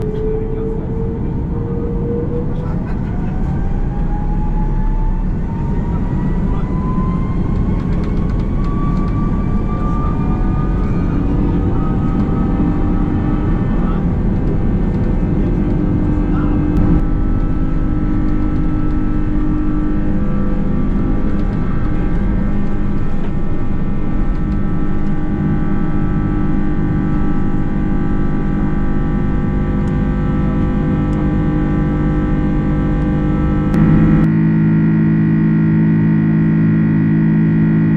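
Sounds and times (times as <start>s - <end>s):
jet engines spooling up: 0.0s - 37.9s.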